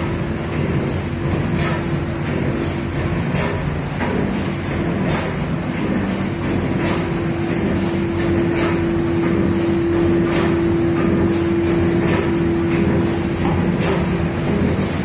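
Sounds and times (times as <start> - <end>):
stamping machine clattering: 0.0 - 15.0
steady hum: 0.0 - 15.0.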